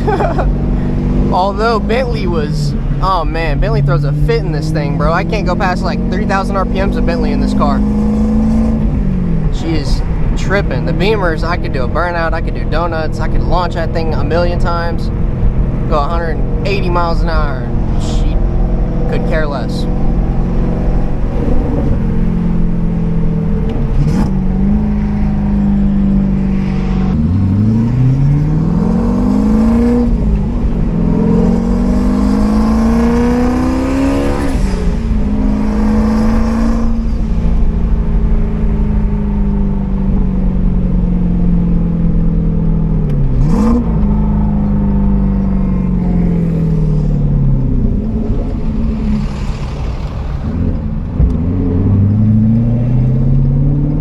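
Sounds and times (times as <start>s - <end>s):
loud car engine revving: 0.0s - 54.0s.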